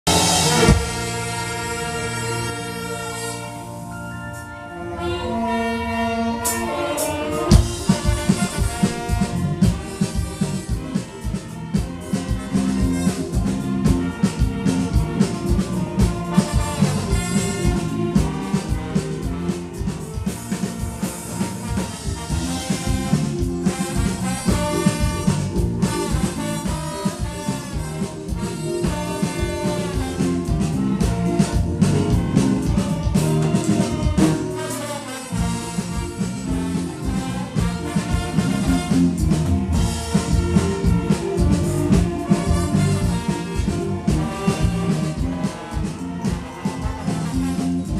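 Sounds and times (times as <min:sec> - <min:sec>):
brass band playing swing: 0:00.0 - 0:47.9.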